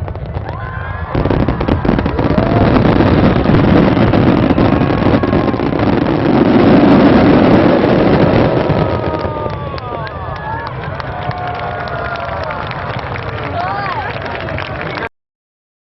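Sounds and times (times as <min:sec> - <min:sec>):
crackling firework reports: 0:00.0 - 0:15.1
fireworks bursting in a rumble: 0:00.0 - 0:15.1.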